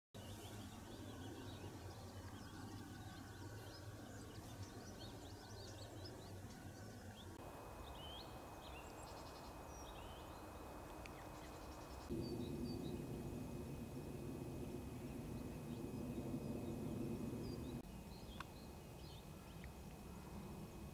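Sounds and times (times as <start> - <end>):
birds chirping: 0.2 - 20.9
low hum: 0.2 - 20.9.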